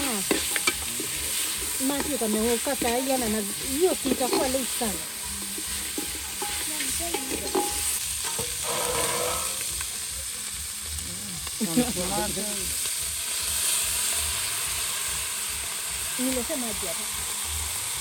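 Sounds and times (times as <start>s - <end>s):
food sizzling in a pot: 0.0s - 18.0s.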